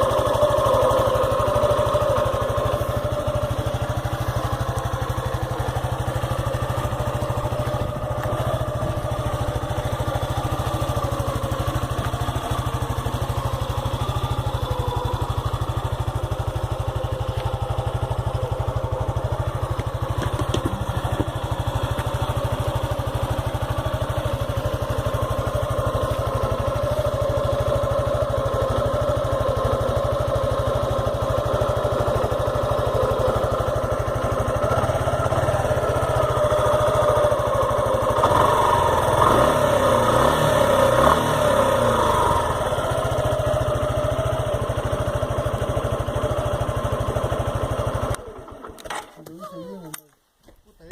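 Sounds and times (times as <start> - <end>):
motorcycle engine idling: 0.0 - 49.5.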